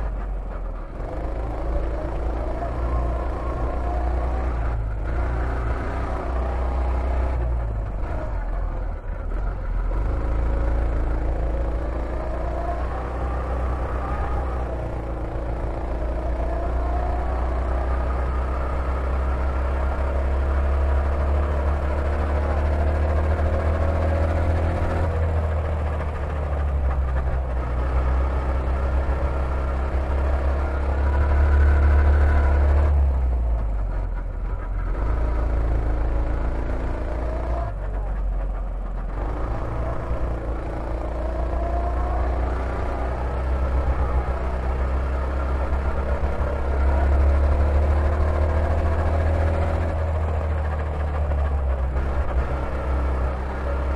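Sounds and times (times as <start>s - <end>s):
go-kart engine revving: 0.0s - 53.9s.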